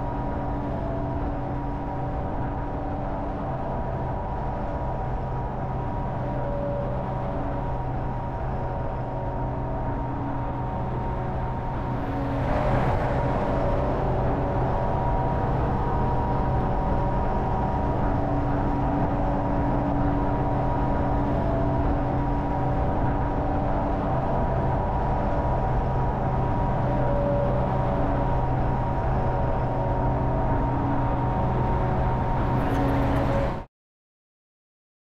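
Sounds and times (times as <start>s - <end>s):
car engine drone: 0.0s - 33.7s.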